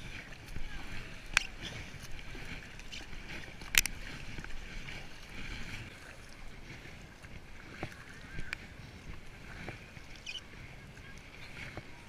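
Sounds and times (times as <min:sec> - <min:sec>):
paddle splashing in water: 0:00.0 - 0:12.0
water trickling off paddle: 0:00.0 - 0:12.0.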